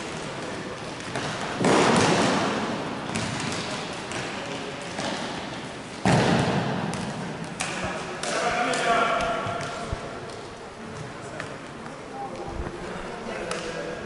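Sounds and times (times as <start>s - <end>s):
loud thuds echoing in a hall: 0.0s - 11.6s.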